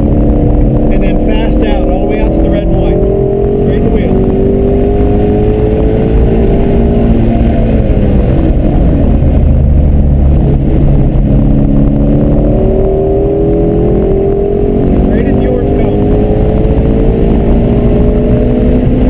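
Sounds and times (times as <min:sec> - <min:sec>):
car engine from inside cabin: 0:00.0 - 0:19.0.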